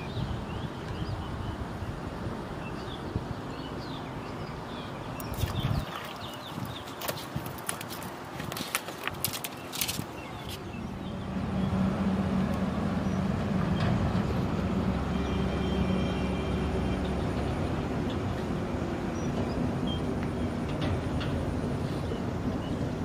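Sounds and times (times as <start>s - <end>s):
road traffic engine drone: 0.0s - 5.3s, 7.8s - 23.0s.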